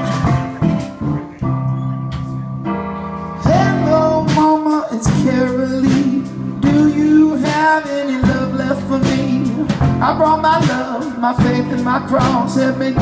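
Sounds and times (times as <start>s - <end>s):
keyboard chords: 0.0s - 13.0s
live rock band: 0.0s - 13.0s.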